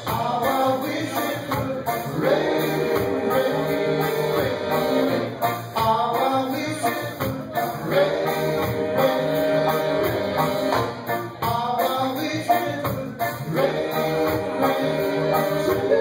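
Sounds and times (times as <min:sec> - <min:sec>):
man singing: 0:00.0 - 0:05.1, 0:05.7 - 0:10.4, 0:11.4 - 0:16.0
live band playing: 0:00.0 - 0:16.0.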